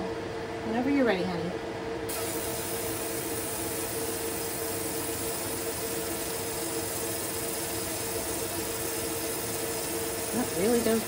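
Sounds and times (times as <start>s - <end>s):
machine hum: 0.0s - 11.0s
laser hissing on metal: 2.1s - 11.0s.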